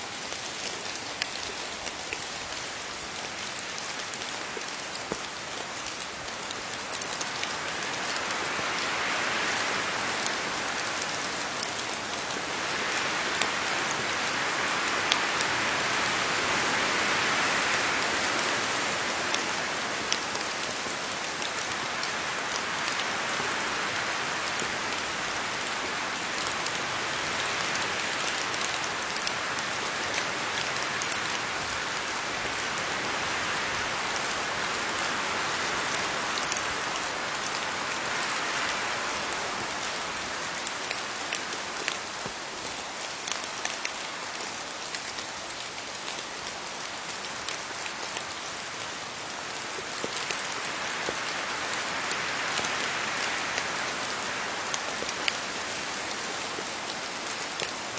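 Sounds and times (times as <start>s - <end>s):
rain falling on leaves: 0.0s - 57.9s.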